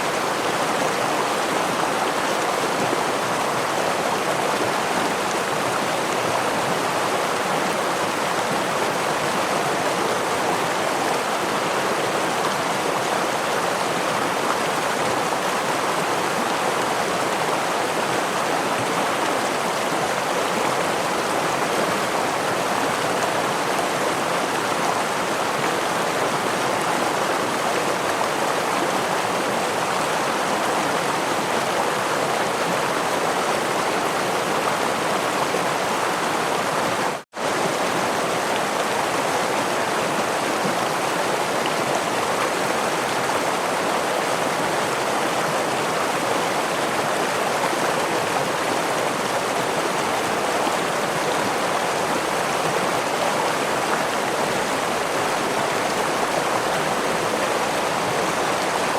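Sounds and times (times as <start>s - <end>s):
stream and waterfall rushing: 0.0s - 58.9s.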